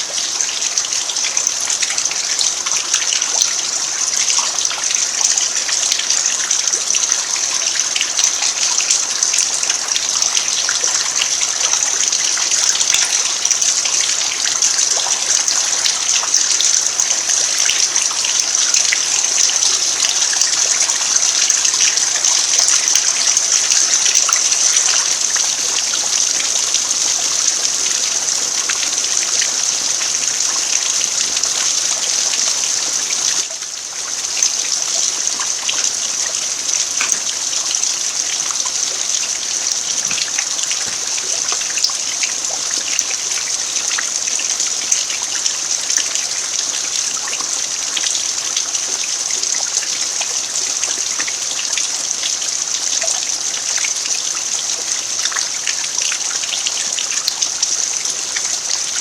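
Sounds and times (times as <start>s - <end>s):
rain falling on dirt: 0.0s - 59.0s.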